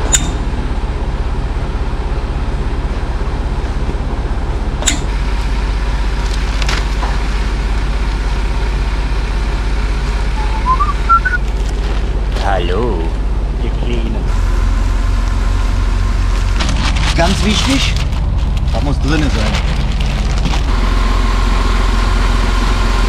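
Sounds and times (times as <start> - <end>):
truck diesel engine throbbing: 0.0 - 23.0.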